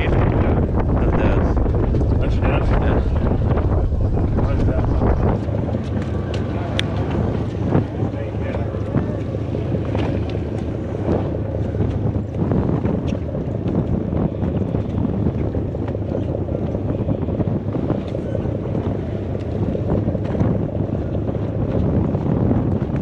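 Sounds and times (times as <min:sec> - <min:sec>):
ocean water washing: 0:00.0 - 0:23.0
wind buffeting microphone: 0:00.0 - 0:23.0.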